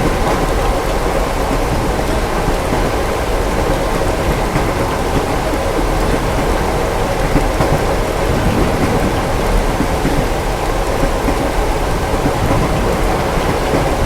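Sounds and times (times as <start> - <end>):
rain on a window: 0.0 - 14.0.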